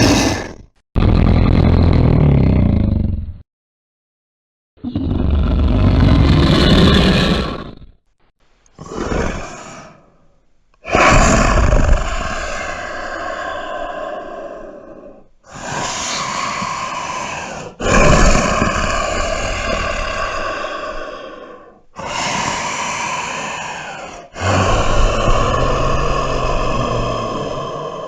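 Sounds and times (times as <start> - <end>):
hissing monster roars and growls: 0.0 - 2.8, 4.8 - 8.0, 8.8 - 10.2, 10.8 - 28.0.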